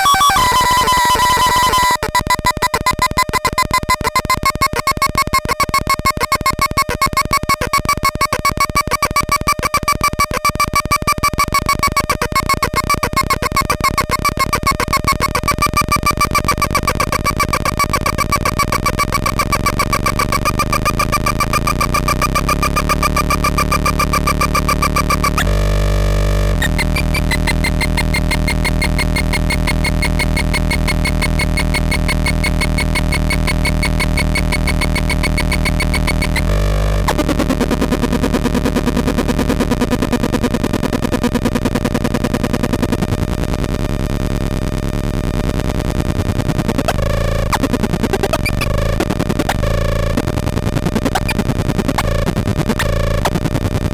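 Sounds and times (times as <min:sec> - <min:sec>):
harsh buzzing synth drone: 0:00.0 - 0:53.9.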